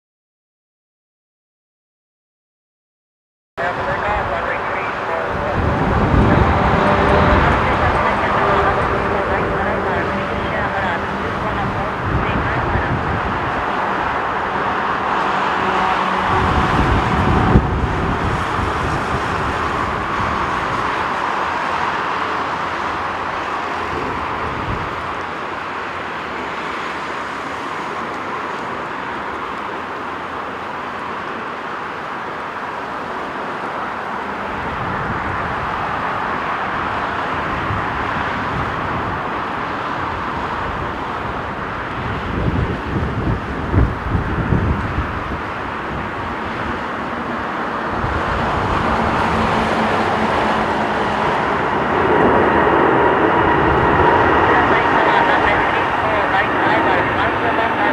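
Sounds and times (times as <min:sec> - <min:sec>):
wind rumble on microphone: 0:03.6 - 0:31.5, 0:34.2 - 0:57.9
jet engine rushing: 0:03.6 - 0:57.9.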